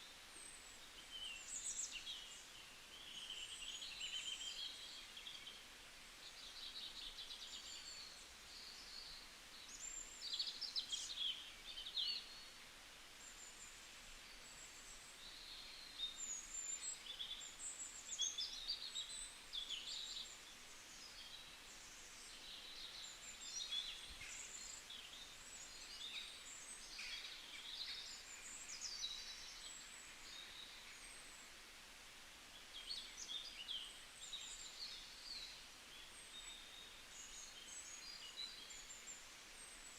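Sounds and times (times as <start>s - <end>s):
low steady hiss: 0.0s - 39.9s
songbirds chirping and trilling: 0.0s - 39.9s.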